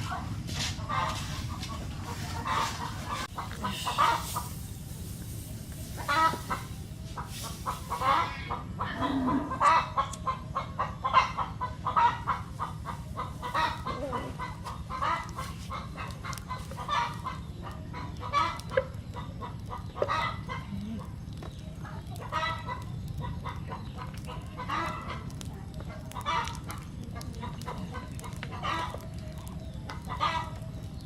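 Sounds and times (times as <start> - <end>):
chickens clucking: 0.0 - 31.0
steady low hum: 0.0 - 31.0.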